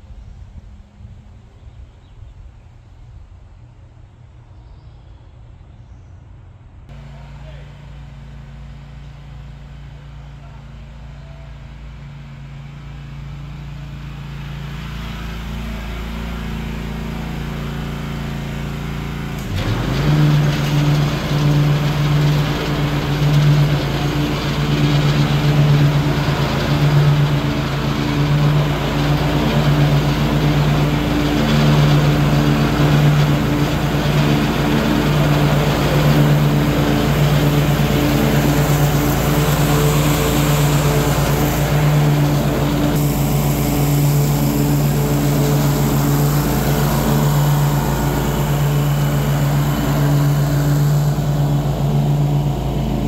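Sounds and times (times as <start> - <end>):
mower blades cutting grass: 6.9 - 53.0
riding mower engine hum: 6.9 - 53.0.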